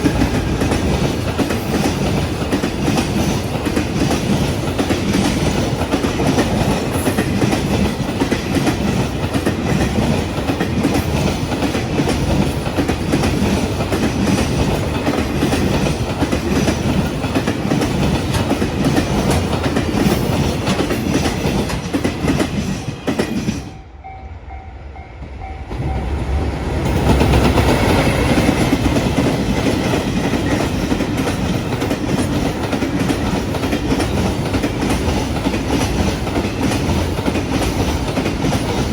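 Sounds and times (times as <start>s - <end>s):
wagons clickety-clack: 0.0s - 23.7s, 27.1s - 38.9s
freight train wheels rumbling on rails: 0.0s - 38.9s.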